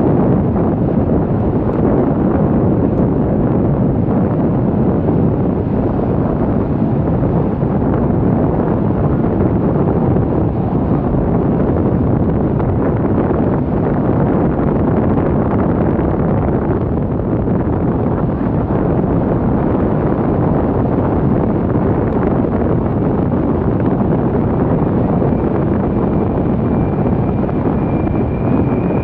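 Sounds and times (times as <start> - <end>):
jet engines rumbling: 0.0 - 29.0
wind buffeting microphone: 0.0 - 29.0.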